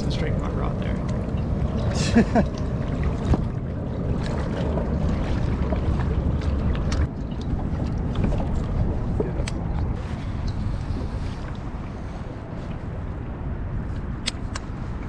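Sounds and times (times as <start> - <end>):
water lapping at a kayak: 0.0 - 15.0
wind buffeting microphone: 0.0 - 15.0.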